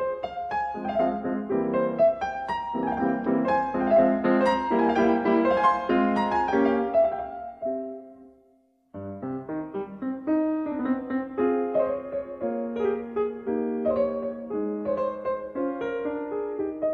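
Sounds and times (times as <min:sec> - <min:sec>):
piano music: 0:00.0 - 0:16.9.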